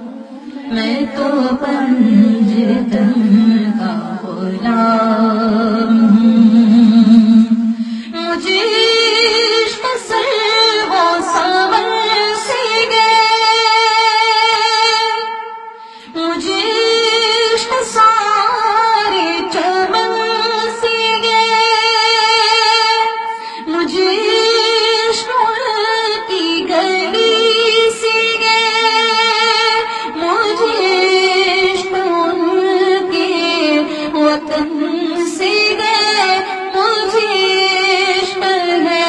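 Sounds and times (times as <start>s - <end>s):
woman singing into microphone: 0.0s - 39.0s.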